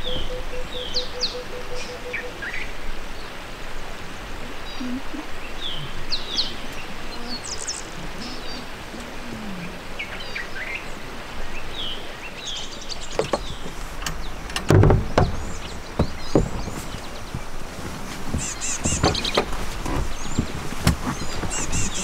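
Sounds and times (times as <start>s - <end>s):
background hiss: 0.0s - 22.0s
birds chirping: 0.0s - 22.0s.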